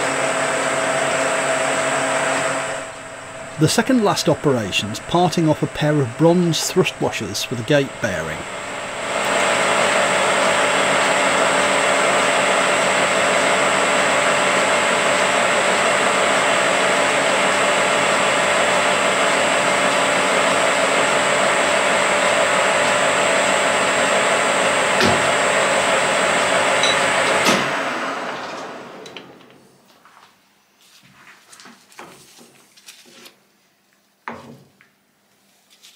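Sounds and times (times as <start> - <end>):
lathe whirring with high whine: 0.0 - 29.4.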